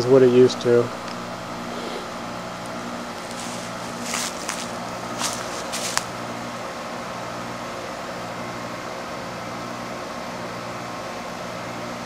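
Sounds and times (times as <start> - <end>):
compressor humming: 0.0 - 12.0
condenser fan rushing: 0.0 - 12.0.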